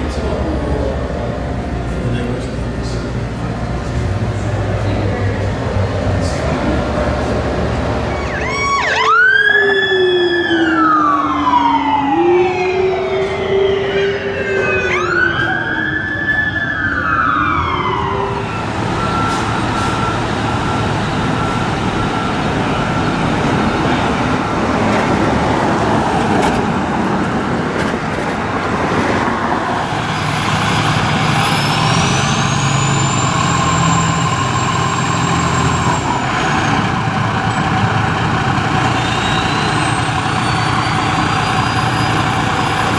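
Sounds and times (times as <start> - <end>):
fire truck engine running: 0.0 - 12.1, 14.2 - 42.9
emergency siren wailing: 0.0 - 42.9
traffic noise: 0.0 - 42.9.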